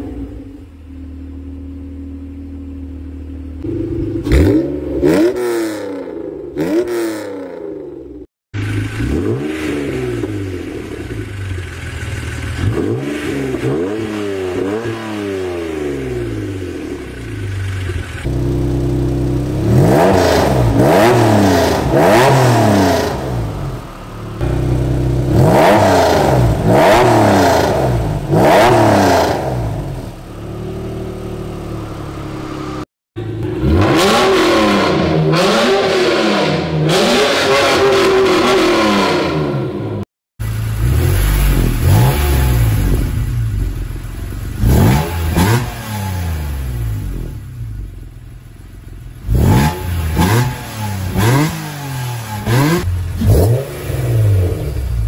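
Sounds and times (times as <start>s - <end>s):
car engine revving: 3.4s - 55.0s.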